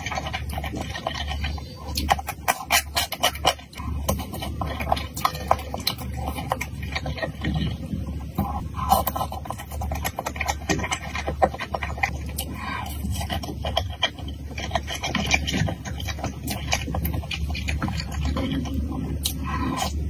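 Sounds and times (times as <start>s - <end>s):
chewing and smacking: 0.0s - 20.0s.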